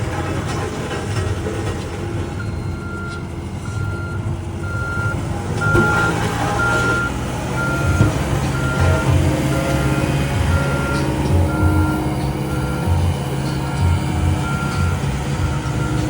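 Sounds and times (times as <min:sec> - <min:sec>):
diesel engines rumbling: 0:00.0 - 0:16.0
back-up alarm beeping: 0:02.4 - 0:16.0.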